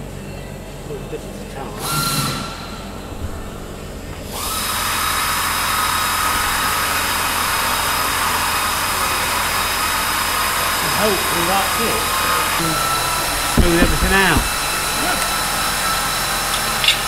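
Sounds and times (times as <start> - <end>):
machine hissing and whining: 1.6 - 16.9.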